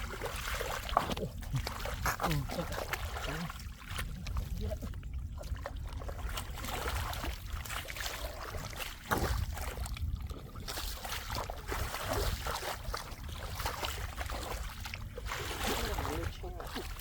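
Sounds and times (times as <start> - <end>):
floodwater sloshing and splashing: 0.0 - 17.0.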